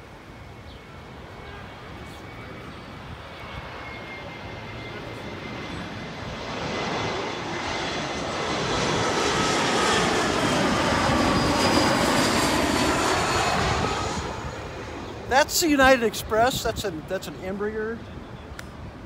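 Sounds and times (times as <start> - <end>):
jet engine whine: 0.0 - 19.0
jet engines rumbling overhead: 0.0 - 19.0.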